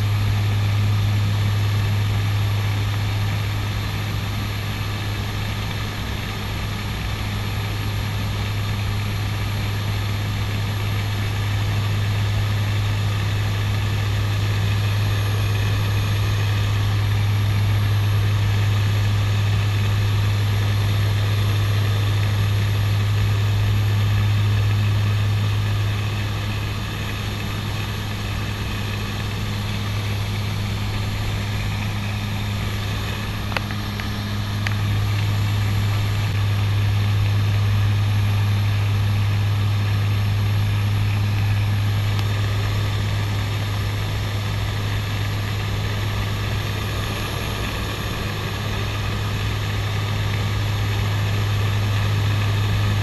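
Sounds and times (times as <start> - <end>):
turboprop engines droning: 0.0 - 53.0.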